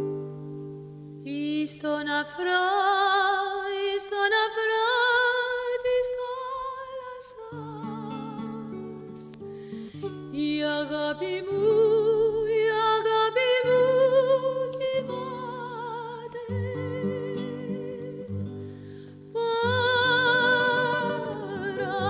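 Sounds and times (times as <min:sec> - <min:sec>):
woman singing with vibrato: 0:01.2 - 0:09.4, 0:10.3 - 0:18.5, 0:19.3 - 0:22.0.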